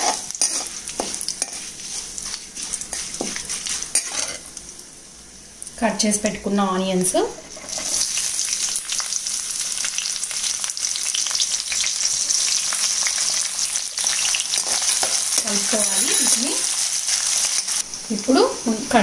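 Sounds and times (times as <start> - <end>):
onions sizzling in hot oil: 0.0 - 4.9, 7.5 - 19.0.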